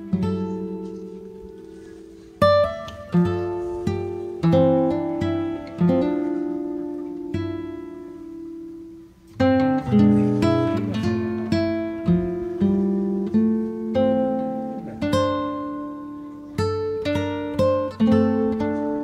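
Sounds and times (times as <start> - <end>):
acoustic guitar melody: 0.0 - 19.0.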